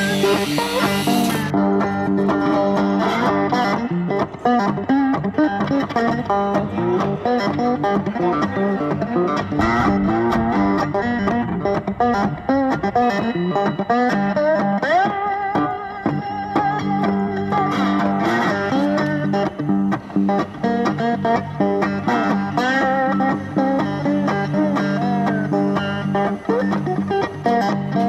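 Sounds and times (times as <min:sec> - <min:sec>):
guitar background music: 0:00.0 - 0:28.0.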